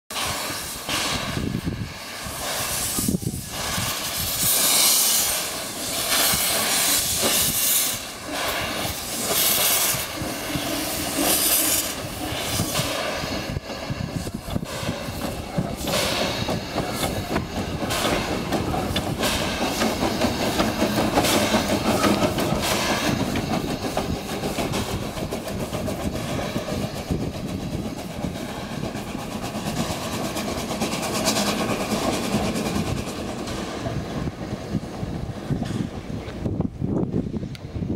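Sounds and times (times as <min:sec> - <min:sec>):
steam hissing: 0:00.1 - 0:36.5
wheels rattling on track: 0:00.4 - 0:37.9.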